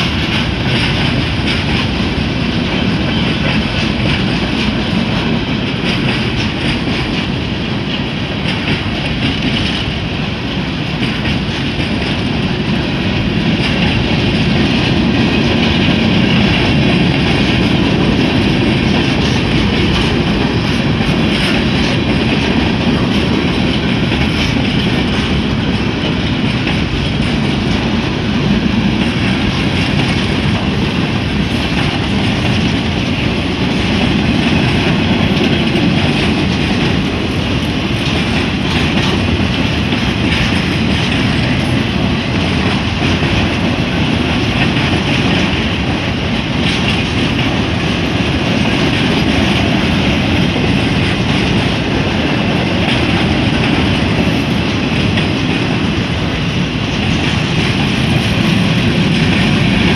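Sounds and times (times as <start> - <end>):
freight train wheels rumbling: 0.0 - 59.9
wheels clacking over rail joints: 0.0 - 59.9.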